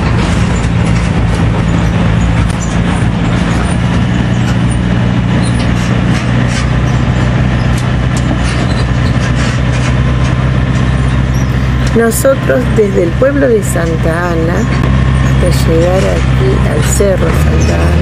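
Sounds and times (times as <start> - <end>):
tractor engine running: 0.0 - 18.0
trailer clicks and rattles: 0.0 - 18.0.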